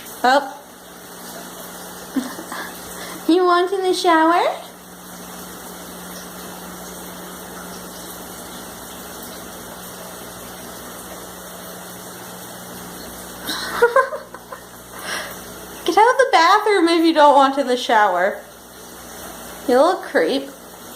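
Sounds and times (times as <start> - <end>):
shower spray running: 0.0 - 20.9.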